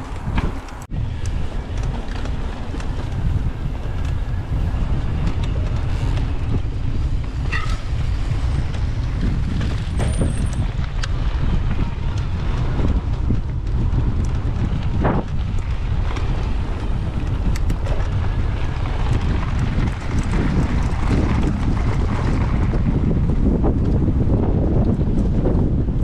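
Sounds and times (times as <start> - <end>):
bike clicks and rattles: 0.0 - 26.0
bike tyre noise: 0.0 - 26.0
wind buffeting microphone: 0.0 - 26.0.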